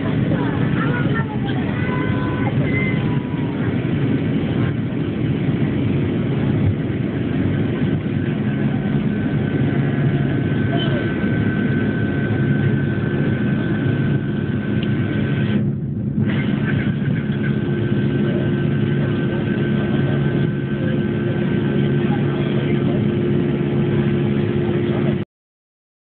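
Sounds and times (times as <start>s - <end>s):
jet engines at takeoff: 0.0s - 25.2s.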